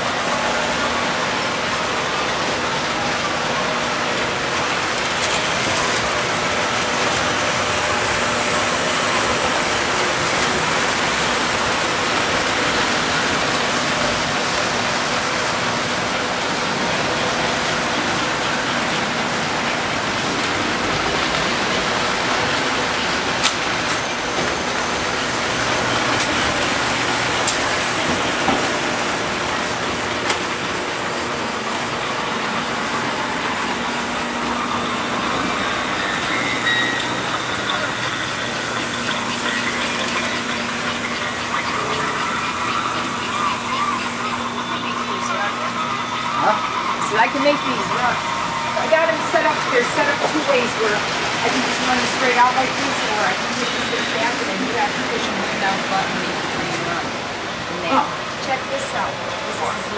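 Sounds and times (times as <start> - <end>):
toy trains whirring on track: 0.0 - 59.9.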